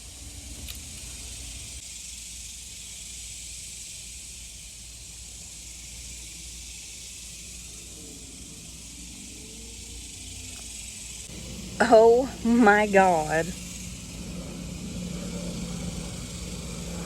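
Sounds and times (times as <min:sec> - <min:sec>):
cicada chorus buzzing: 0:00.0 - 0:17.0.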